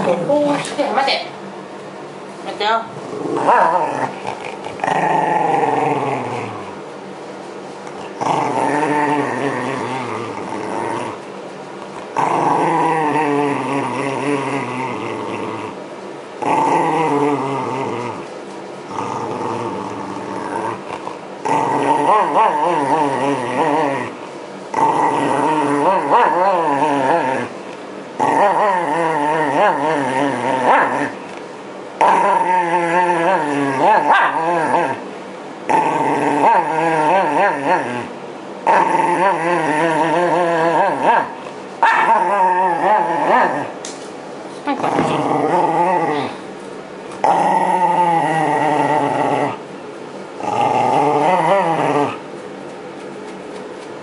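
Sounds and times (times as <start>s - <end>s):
dog growling and snarling: 2.9s - 6.9s, 7.9s - 31.4s, 32.0s - 43.8s, 44.6s - 52.4s.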